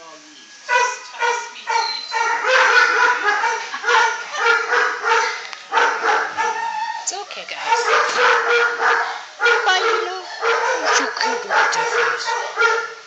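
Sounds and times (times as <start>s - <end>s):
dogs baying and barking: 0.6s - 13.0s.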